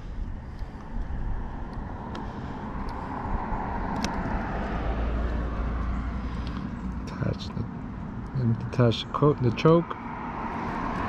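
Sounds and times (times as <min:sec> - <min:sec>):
passing vehicle rumble: 0:00.0 - 0:11.0.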